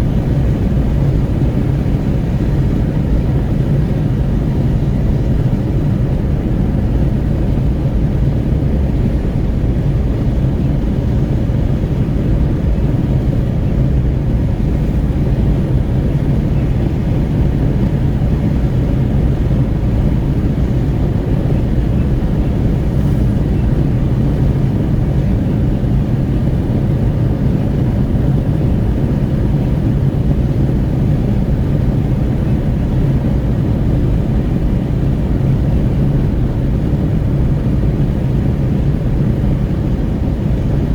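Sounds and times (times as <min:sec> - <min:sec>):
wind rushing at car window: 0:00.0 - 0:40.9.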